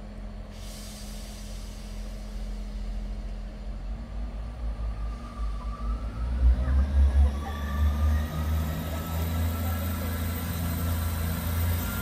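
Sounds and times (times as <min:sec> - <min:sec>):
train engine rumble: 0:00.0 - 0:12.0.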